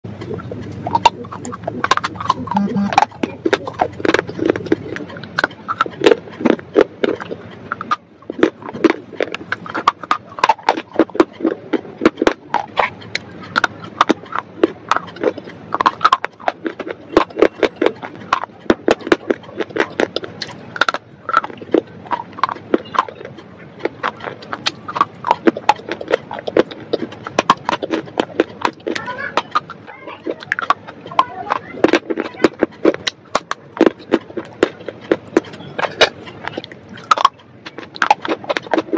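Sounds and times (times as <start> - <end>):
crunching and chewing: 0.0 - 38.9.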